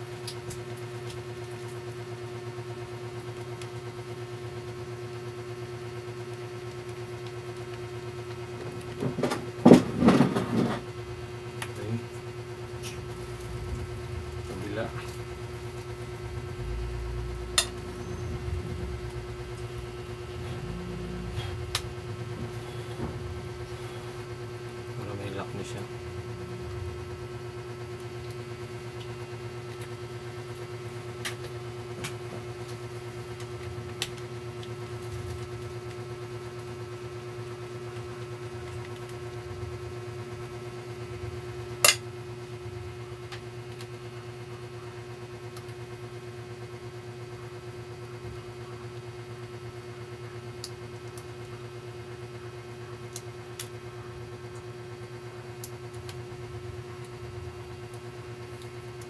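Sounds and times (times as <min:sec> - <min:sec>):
steady motor hum: 0:00.0 - 0:59.0.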